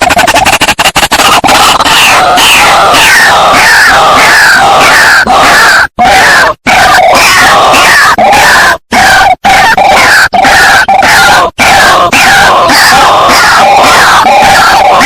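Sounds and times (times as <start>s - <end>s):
birds croaking calls: 0.0s - 15.0s.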